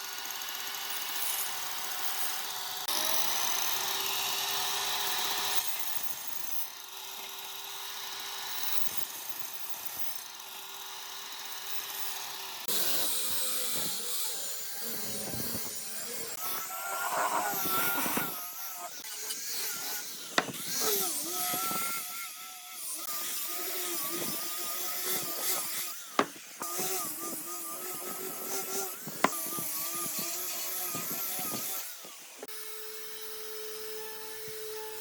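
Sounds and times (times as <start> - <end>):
power tool motor on wood: 0.0 - 35.0.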